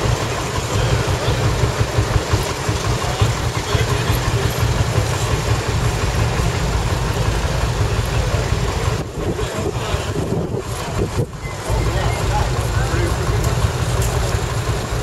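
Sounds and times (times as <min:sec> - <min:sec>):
diesel tractors idling: 0:00.0 - 0:15.0.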